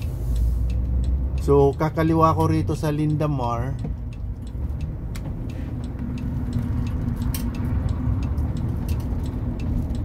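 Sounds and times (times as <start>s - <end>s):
car turn signal ticking: 0.0s - 10.0s
engine hum and road noise: 0.0s - 10.0s.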